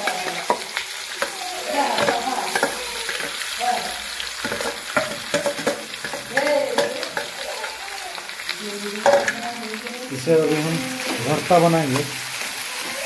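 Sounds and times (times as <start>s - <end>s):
potato frying sizzle: 0.0s - 13.0s.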